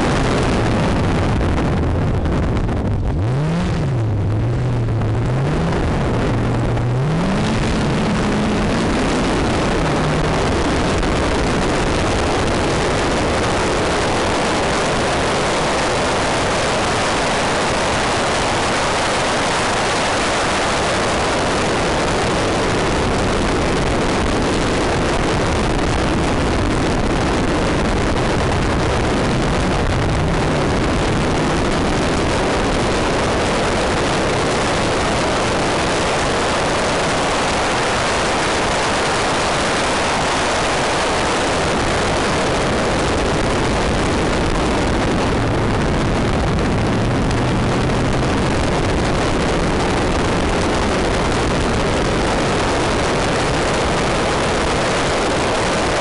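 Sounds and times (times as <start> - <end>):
rally car engine accelerating: 0.0 - 52.0
tyre and wind noise: 0.0 - 56.0.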